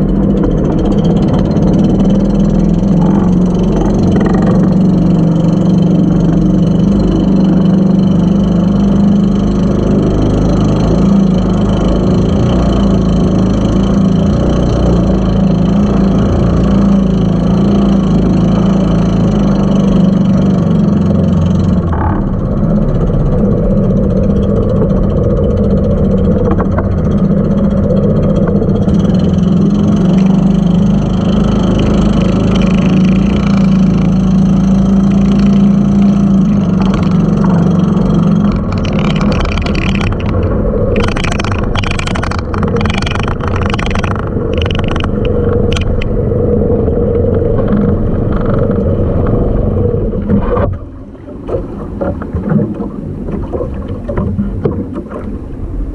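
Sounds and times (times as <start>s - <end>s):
boat engine running: 0.0s - 55.9s
water rushing along hull: 0.0s - 55.9s.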